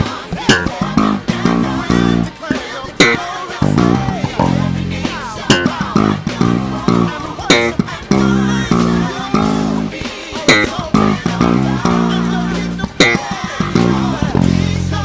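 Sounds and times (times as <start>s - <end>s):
drum hits: 0.0s - 15.0s
electric bass groove: 0.0s - 15.0s
gospel band music: 0.0s - 15.0s.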